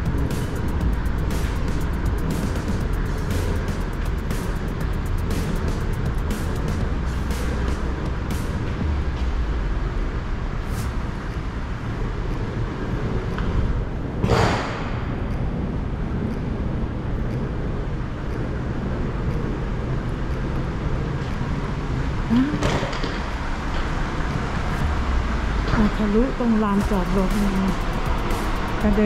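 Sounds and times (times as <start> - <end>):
vehicle traffic rumble: 0.0 - 29.0.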